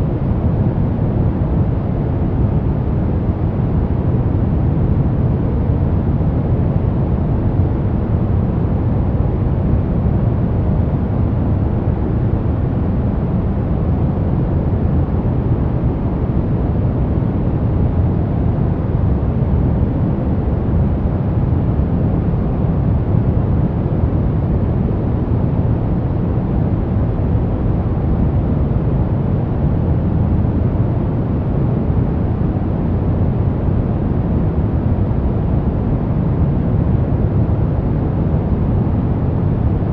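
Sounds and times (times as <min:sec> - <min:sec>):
deep rumbly white noise: 0:00.0 - 0:39.9.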